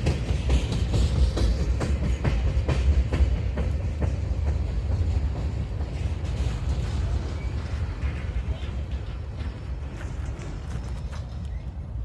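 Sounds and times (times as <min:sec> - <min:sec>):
freight train rolling past: 0:00.0 - 0:12.0
wheels clicking over rail joints: 0:00.0 - 0:12.0.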